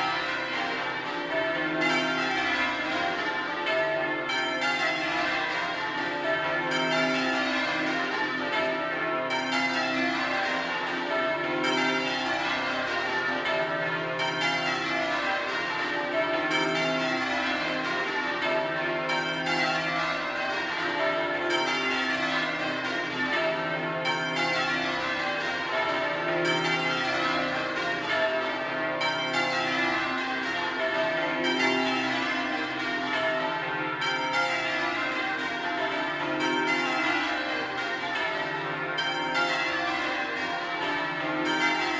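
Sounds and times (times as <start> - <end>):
church bells change ringing: 0.0 - 41.9.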